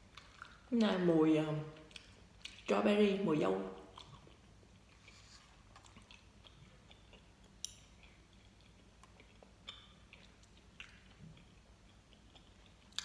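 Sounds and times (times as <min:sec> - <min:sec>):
chewing gummy candy: 0:00.0 - 0:00.8, 0:01.7 - 0:02.8, 0:03.6 - 0:13.0.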